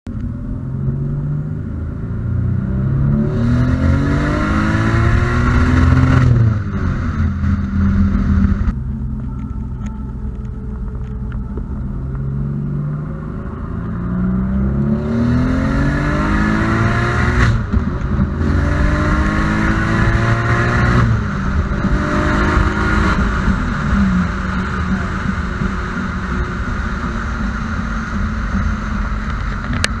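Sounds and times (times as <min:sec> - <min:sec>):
turbo engine accelerating: 0:00.1 - 0:30.0.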